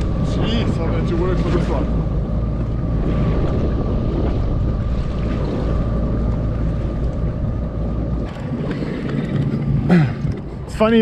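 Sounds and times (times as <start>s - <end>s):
jet ski engine running: 0.0s - 11.0s
wind buffeting microphone: 0.0s - 11.0s.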